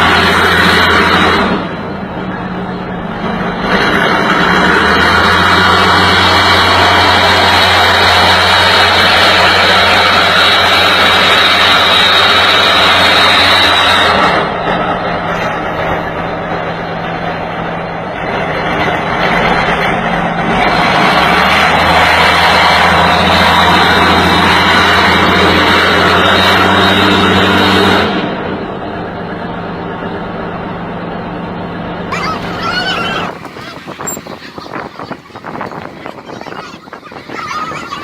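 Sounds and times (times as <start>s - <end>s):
heavy machinery engine running: 0.0s - 38.0s.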